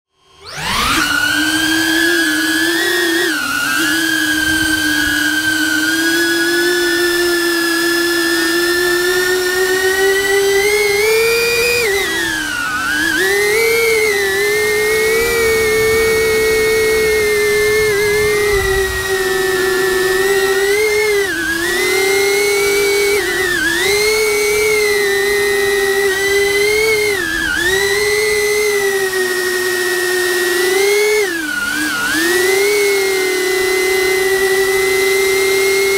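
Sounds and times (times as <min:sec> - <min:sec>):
drone propellers whining: 0:00.2 - 0:35.9.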